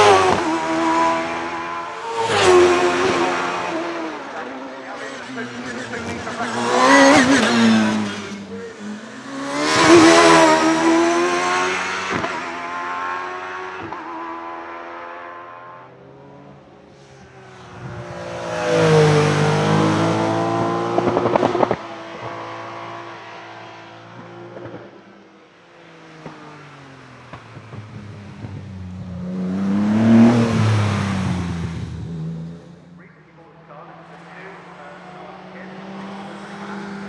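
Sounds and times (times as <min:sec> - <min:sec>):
race car engine passing at high revs: 0:00.0 - 0:33.0, 0:33.6 - 0:37.0.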